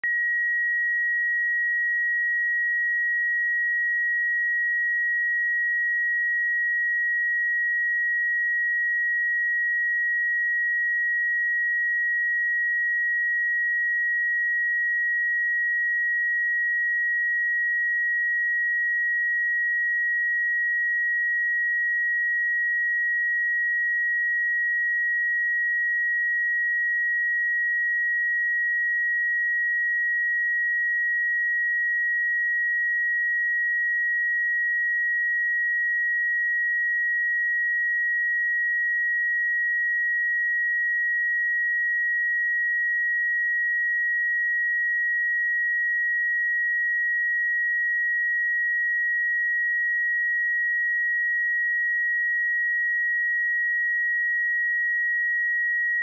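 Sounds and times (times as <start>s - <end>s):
high-pitched sine test tone: 0.0s - 56.0s.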